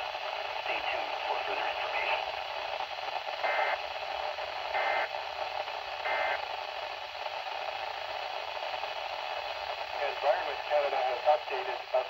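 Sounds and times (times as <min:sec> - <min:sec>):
static hiss: 0:00.0 - 0:12.0.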